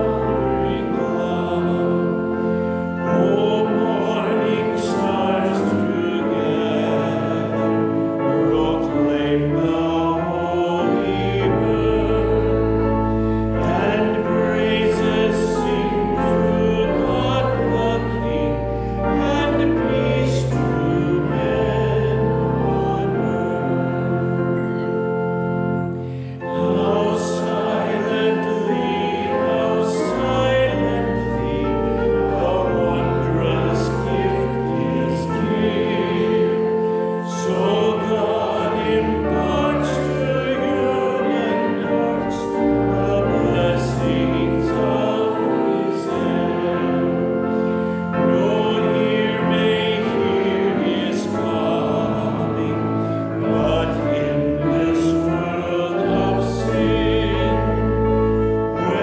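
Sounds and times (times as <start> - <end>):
instrumental accompaniment: 0.0 - 59.0
voices singing a hymn: 0.0 - 59.0.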